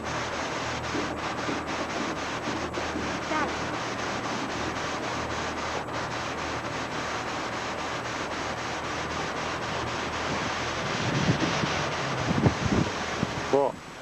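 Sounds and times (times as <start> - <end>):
constant rushing hiss: 0.0 - 14.0.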